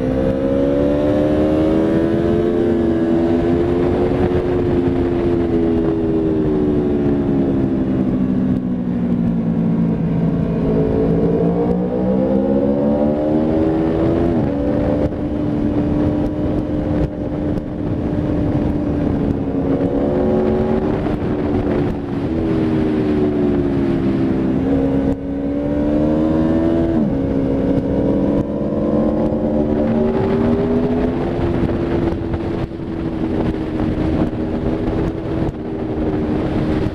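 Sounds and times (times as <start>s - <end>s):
motorcycle engine at speed: 0.0s - 36.9s.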